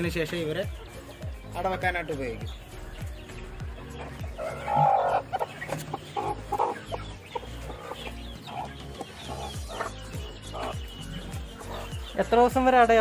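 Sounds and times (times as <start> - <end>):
hens clucking: 0.0 - 12.7.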